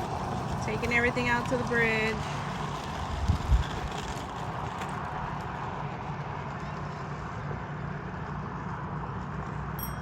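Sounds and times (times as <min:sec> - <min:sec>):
scooter rolling: 0:00.0 - 0:09.8.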